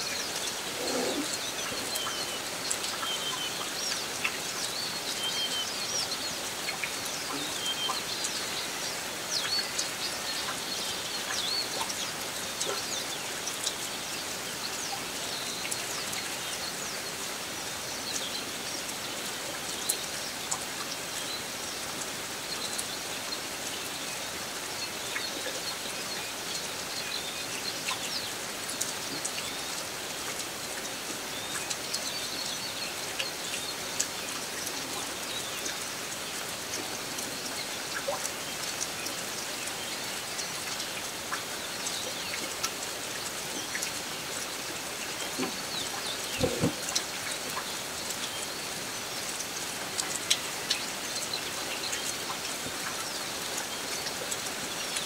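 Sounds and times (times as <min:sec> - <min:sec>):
small birds chirping: 0:00.0 - 0:30.0, 0:30.9 - 0:55.0
steady rain falling: 0:00.0 - 0:55.0.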